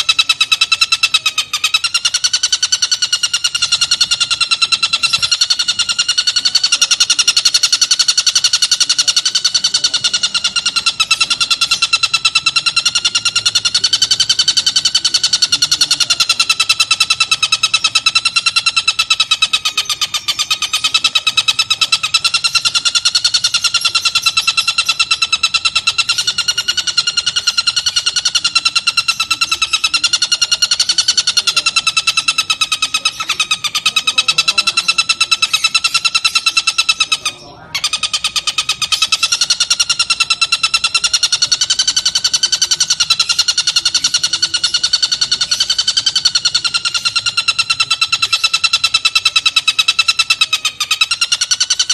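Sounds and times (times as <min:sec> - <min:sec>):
bird rapid buzzing chatter: 0:00.0 - 0:51.9.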